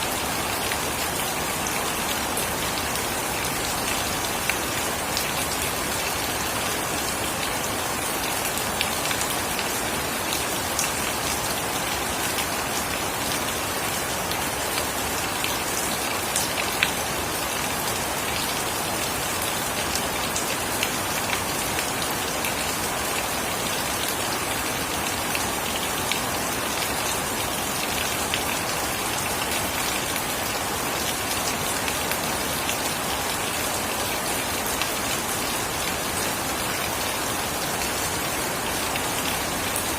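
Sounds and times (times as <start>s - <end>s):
raindrops dripping and splashing: 0.0s - 39.9s
steady rain hiss: 0.0s - 39.9s.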